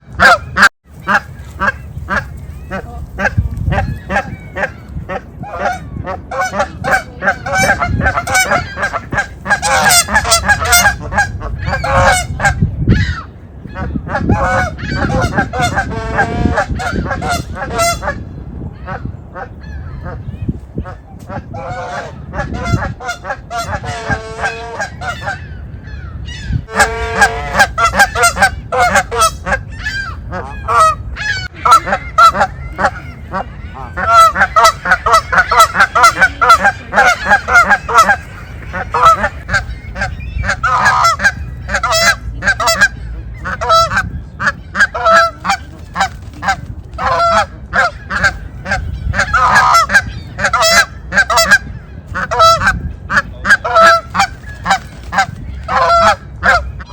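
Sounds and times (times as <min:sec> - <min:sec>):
geese honking: 0:00.1 - 0:56.9.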